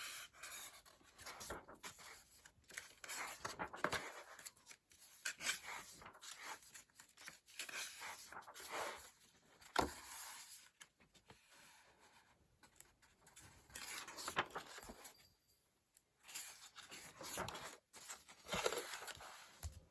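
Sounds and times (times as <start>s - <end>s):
paper pages turning: 0.4s - 15.2s, 16.3s - 19.9s.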